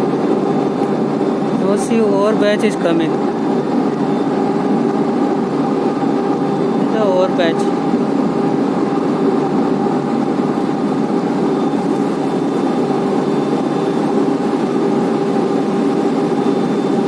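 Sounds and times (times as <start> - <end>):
constant machine hums: 0.0 - 17.0
conveyor belt mechanical drone: 0.0 - 17.0.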